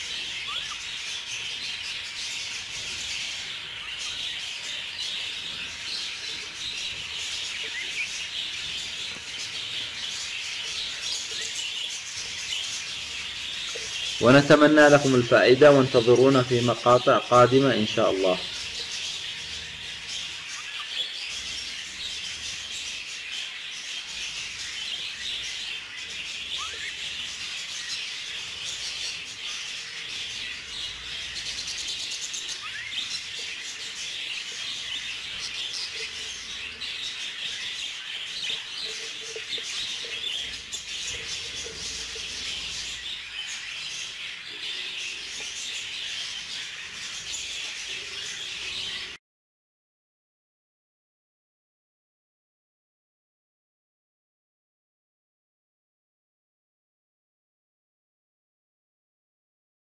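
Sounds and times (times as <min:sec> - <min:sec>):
budgerigars chirping: 0:00.0 - 0:49.2.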